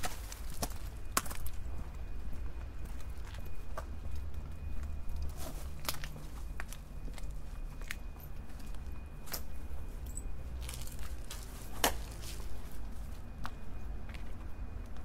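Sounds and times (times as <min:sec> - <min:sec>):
footsteps on hard ground: 0:00.0 - 0:15.0
steady low rumble: 0:00.0 - 0:15.0.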